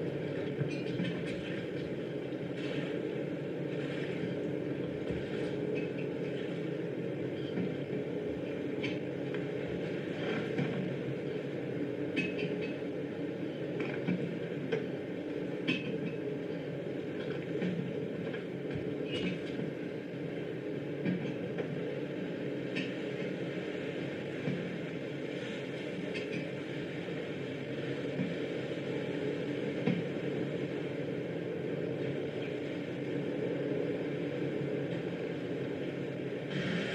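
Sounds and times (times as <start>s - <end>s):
boat engine rumble: 0.0s - 36.9s.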